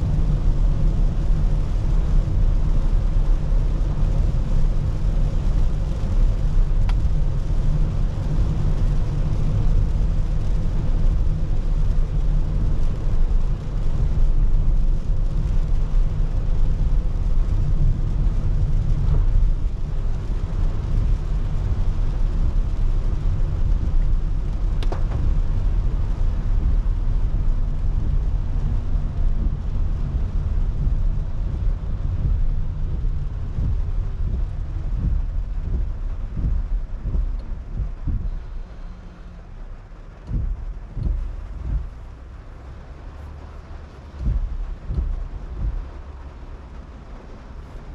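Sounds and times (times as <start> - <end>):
rain and spray hiss: 0.0 - 47.9
tyre and engine rumble: 0.0 - 47.9.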